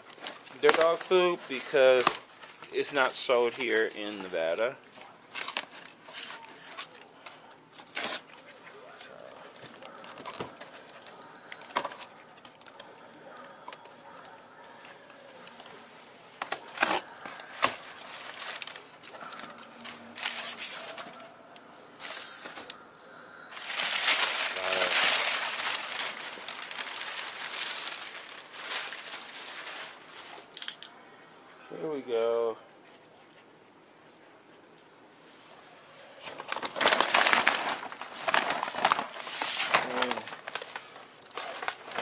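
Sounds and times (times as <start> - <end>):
packing paper rustling: 0.0 - 21.4, 22.0 - 22.8, 23.5 - 30.7, 36.2 - 42.0.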